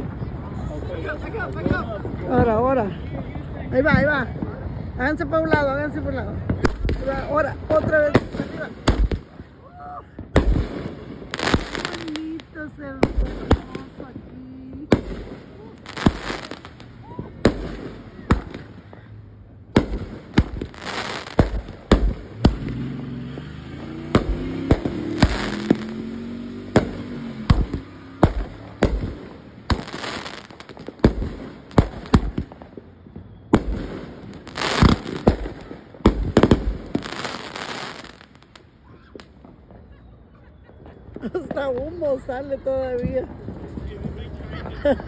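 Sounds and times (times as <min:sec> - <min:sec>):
fireworks bangs and crackling: 0:00.0 - 0:45.0.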